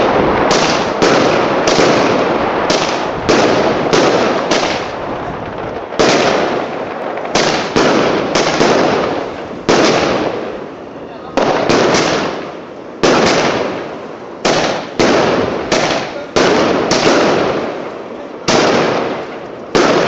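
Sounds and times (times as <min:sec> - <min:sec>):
firework bangs: 0:00.0 - 0:20.0.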